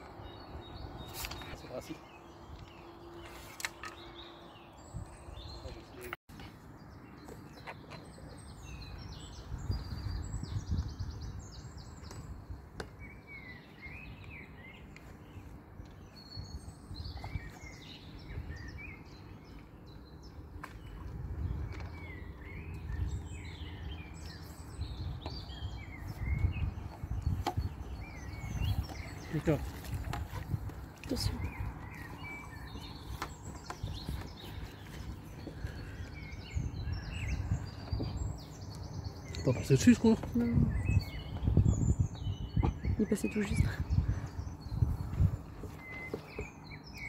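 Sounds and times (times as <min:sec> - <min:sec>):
songbirds chirping: 0:00.0 - 0:47.0.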